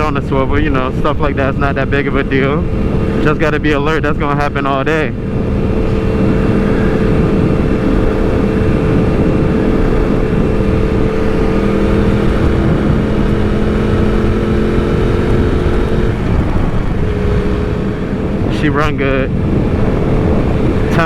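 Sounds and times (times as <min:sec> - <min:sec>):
motorbike engine cruising: 0:00.0 - 0:21.0
wind rush: 0:00.0 - 0:21.0.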